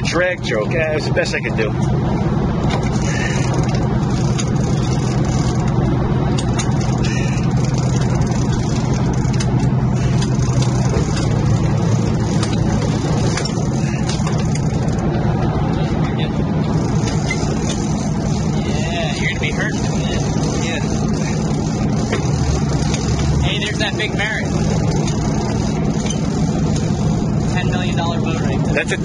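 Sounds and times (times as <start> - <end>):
boat diesel engines droning: 0.0 - 29.0.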